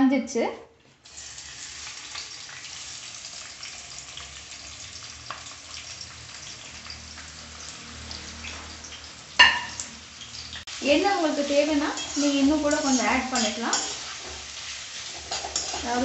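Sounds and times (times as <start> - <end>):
onions sizzling in hot oil: 1.0 - 16.0.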